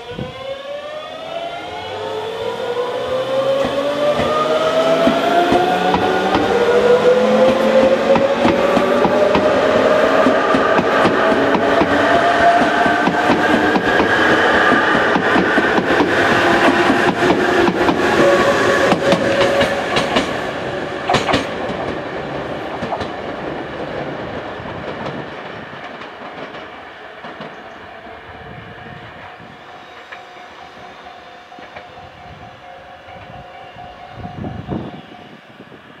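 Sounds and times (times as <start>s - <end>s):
electric train inverter whine: 0.0s - 36.0s.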